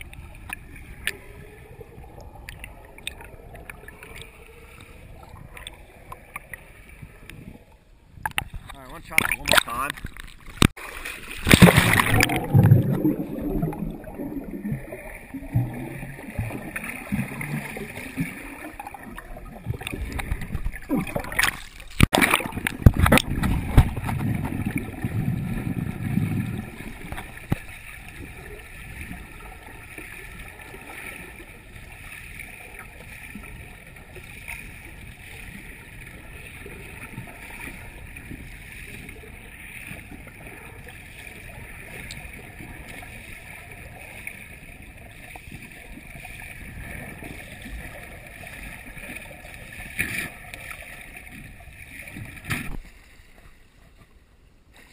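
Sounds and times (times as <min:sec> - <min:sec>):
water splashing and sloshing: 0:00.0 - 0:54.9.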